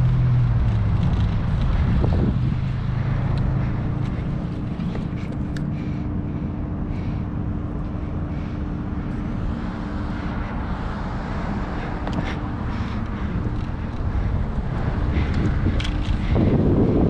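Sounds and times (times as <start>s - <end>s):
wind noise: 0.0s - 6.0s, 8.3s - 17.0s
constant low hum: 0.0s - 17.0s
vehicle noise: 0.0s - 17.0s.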